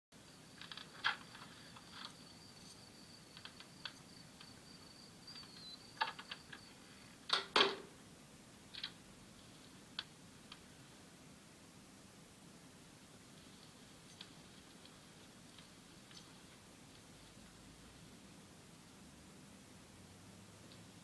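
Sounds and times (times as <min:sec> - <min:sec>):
faint high whine: 0:00.2 - 0:21.0.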